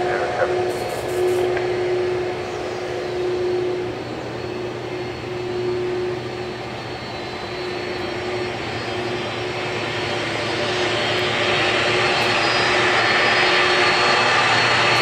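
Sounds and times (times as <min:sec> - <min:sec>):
jet engines humming and whining: 0:00.0 - 0:15.0.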